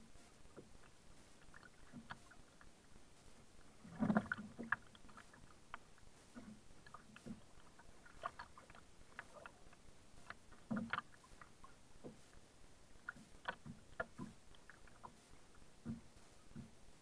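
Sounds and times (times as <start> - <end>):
waves lapping against kayak hull: 0.0 - 17.0.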